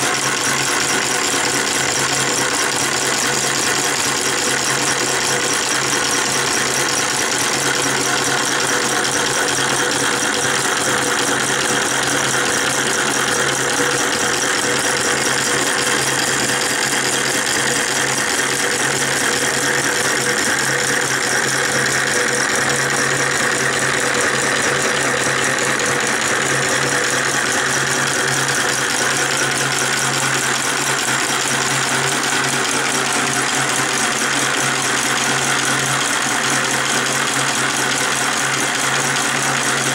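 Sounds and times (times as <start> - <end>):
small engine rattling steadily: 0.0 - 39.9.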